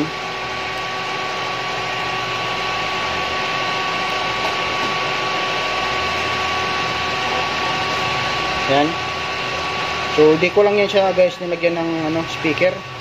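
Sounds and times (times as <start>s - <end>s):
amplifier hissing drone: 0.0s - 13.0s.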